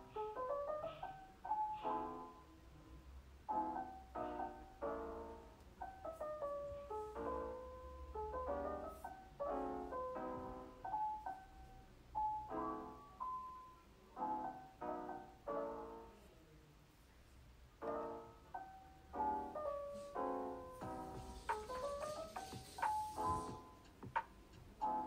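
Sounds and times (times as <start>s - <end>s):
piano chords and notes: 0.0s - 25.0s.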